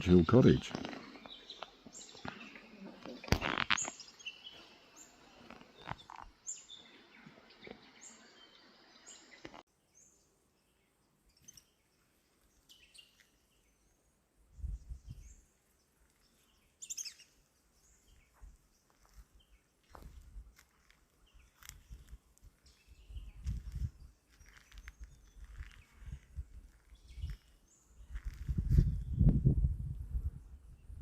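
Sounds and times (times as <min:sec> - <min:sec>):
wild birds chirping: 0:00.0 - 0:29.3.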